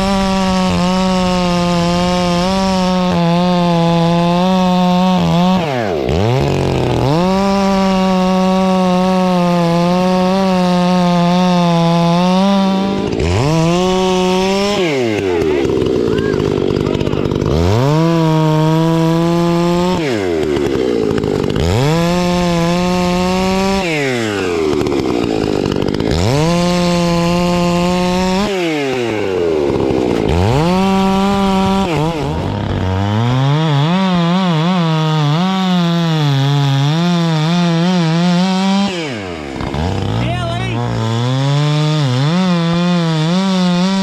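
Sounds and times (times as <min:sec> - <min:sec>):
chainsaw revving: 0:00.0 - 0:44.0.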